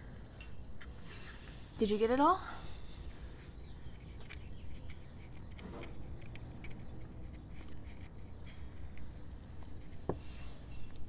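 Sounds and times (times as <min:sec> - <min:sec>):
low steady background rumble: 0:00.0 - 0:11.0.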